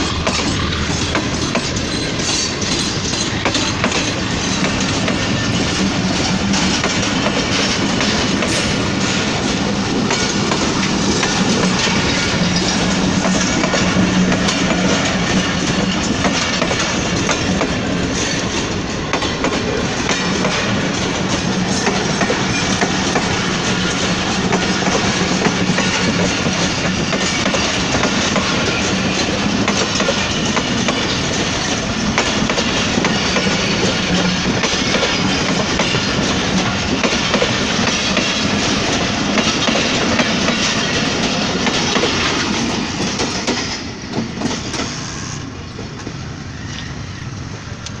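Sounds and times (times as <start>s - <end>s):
train wheels clattering over rail joints: 0.0s - 46.9s.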